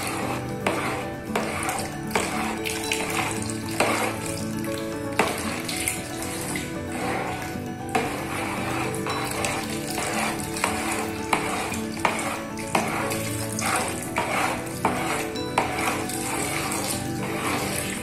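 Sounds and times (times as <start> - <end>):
background music: 0.0 - 18.0
utensil scraping a soup pot: 0.0 - 18.0.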